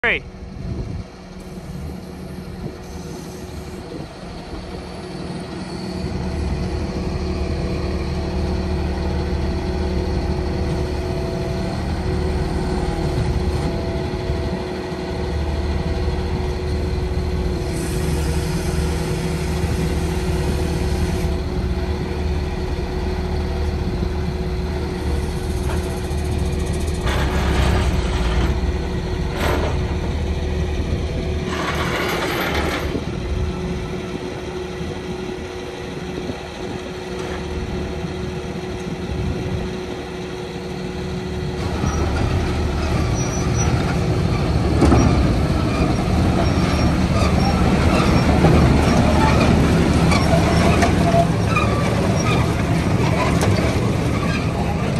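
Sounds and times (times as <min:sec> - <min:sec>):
diesel truck engine running: 0:00.5 - 0:54.9.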